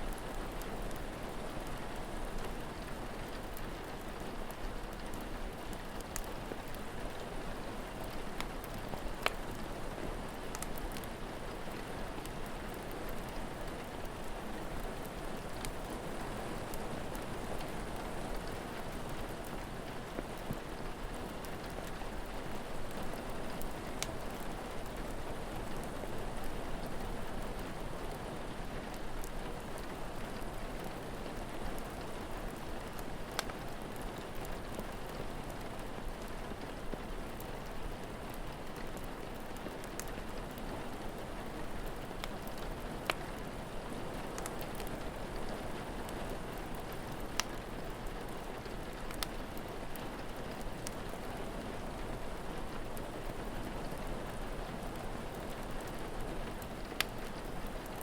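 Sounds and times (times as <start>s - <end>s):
rain falling: 0.0s - 58.0s
wood fire popping: 3.3s - 27.7s, 28.4s - 58.0s.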